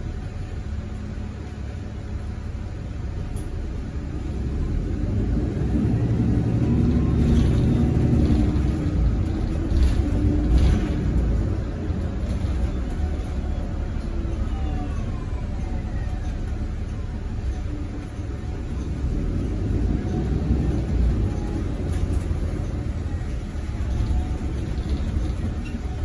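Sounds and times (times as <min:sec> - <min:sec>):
bus cabin rumble: 0:00.0 - 0:26.0.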